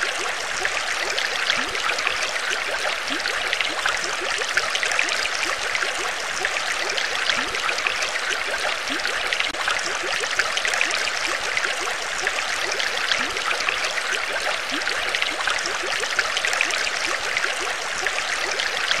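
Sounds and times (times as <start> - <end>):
water trickling and bubbling: 0.0 - 19.0.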